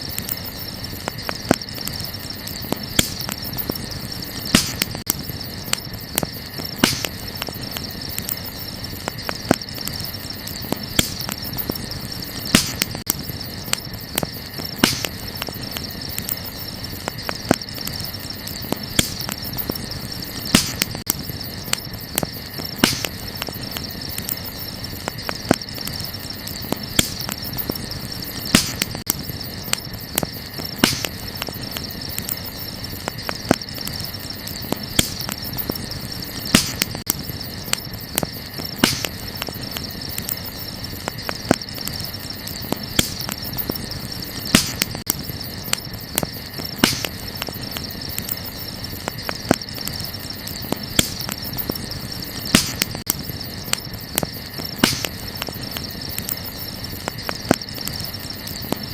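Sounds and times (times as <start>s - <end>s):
campfire crackling and popping: 0.0s - 58.9s
crickets chirring: 0.0s - 58.9s.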